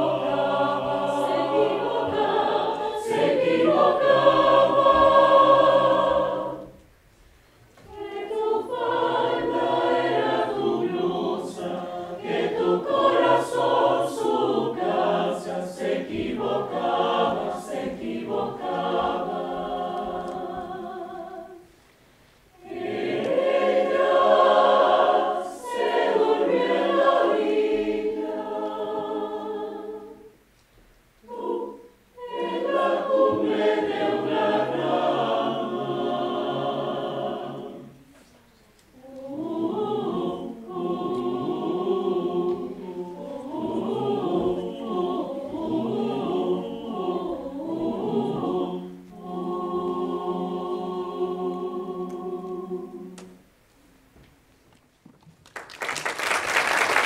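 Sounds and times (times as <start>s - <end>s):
mixed choir singing a cappella: 0.0s - 6.9s, 7.8s - 21.8s, 22.5s - 30.4s, 31.2s - 53.5s.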